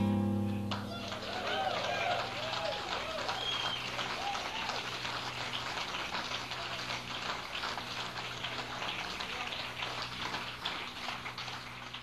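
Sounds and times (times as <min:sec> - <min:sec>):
low electrical hum: 0:00.0 - 0:12.0
audience applauding: 0:00.7 - 0:12.0.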